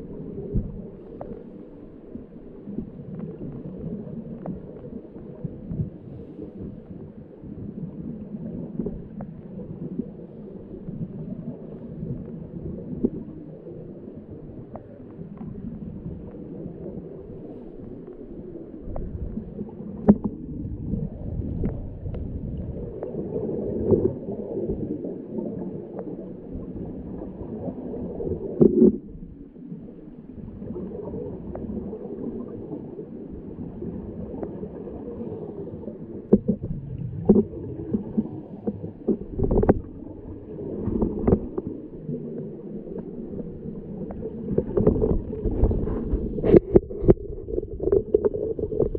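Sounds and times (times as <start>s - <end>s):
bubbles gurgling underwater: 0.0s - 48.9s.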